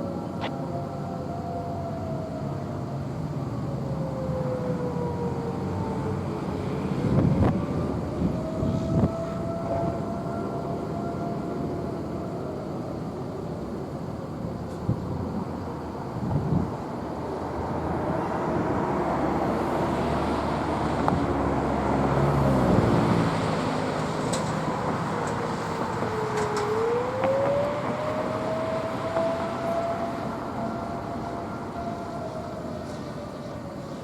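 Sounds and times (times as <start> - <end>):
outdoor warning siren: 0.0 - 34.0
road traffic noise: 0.0 - 34.0.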